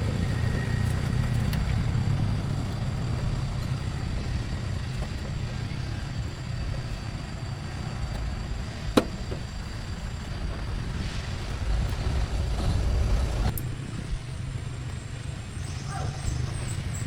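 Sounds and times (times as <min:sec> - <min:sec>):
motor running with low rumble: 0:00.0 - 0:17.0.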